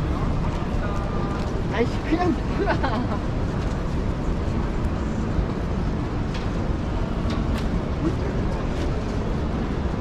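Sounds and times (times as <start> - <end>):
low rumble of exhibition hall: 0.0 - 10.0.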